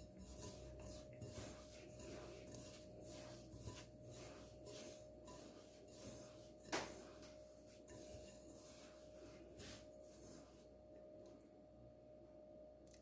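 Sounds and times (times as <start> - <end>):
hands rubbing grainy mixture: 0.0 - 10.7.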